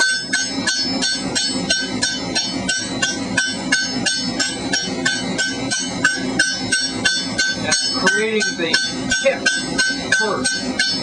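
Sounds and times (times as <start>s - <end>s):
hammer ringing on hot steel pipe: 0.0s - 11.0s.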